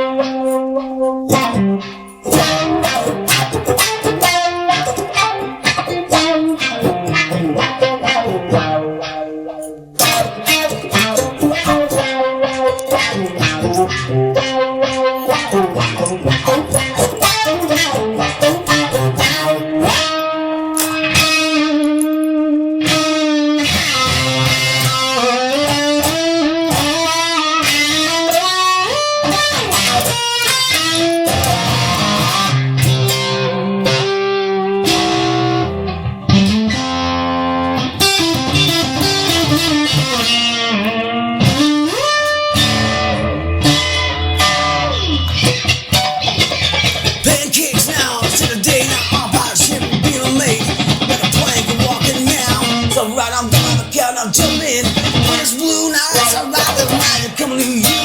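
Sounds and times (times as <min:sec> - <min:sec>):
instrumental rock with electric guitar: 0:00.0 - 0:58.0.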